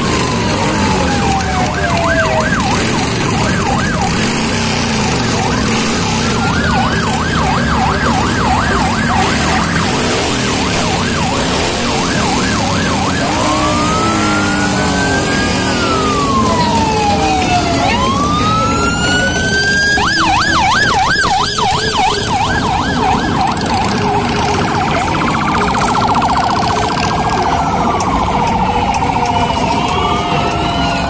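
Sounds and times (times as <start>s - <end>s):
motorcycle engines riding past: 0.0s - 31.0s
siren wailing and yelping: 0.0s - 31.0s.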